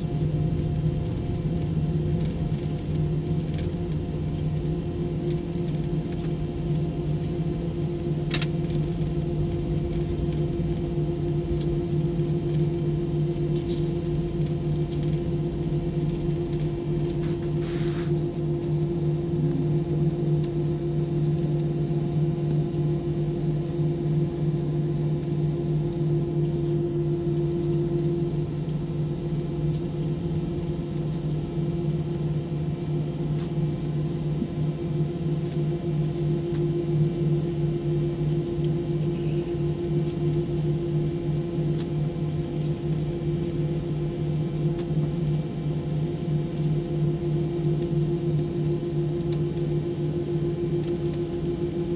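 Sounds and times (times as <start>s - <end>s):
airliner engines humming: 0.0s - 51.9s.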